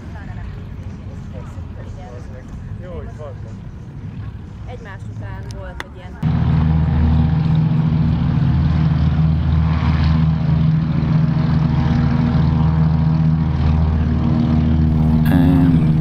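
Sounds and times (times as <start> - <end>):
propeller aircraft engines at full power: 0.0 - 15.3.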